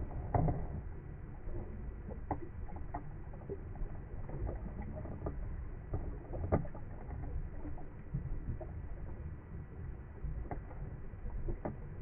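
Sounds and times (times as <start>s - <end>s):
low underwater rumble: 0.0s - 12.0s.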